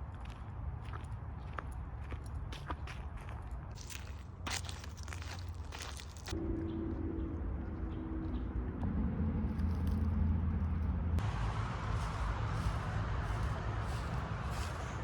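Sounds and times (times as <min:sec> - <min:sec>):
car low rumble: 0:00.0 - 0:15.0.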